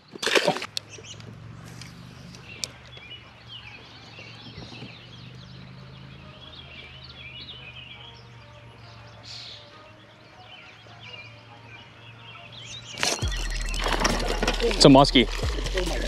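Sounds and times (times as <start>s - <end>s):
birds singing and chirping: 0.0s - 16.0s.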